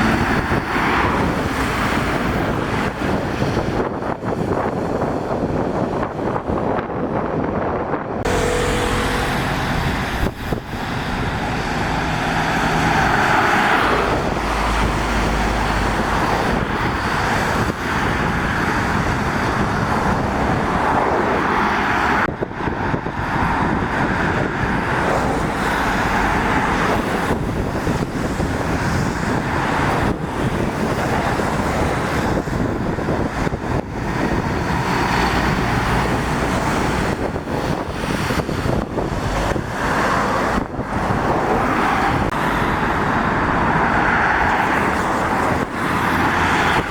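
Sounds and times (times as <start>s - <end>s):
deep lorry engine rumble: 0.0s - 46.9s
traffic engine noise: 0.0s - 46.9s.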